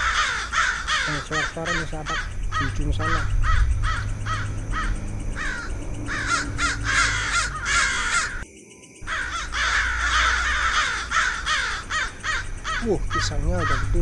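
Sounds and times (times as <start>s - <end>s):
steady low hum: 0.0s - 8.4s, 9.0s - 14.0s
chorus of animal calls: 0.0s - 14.0s.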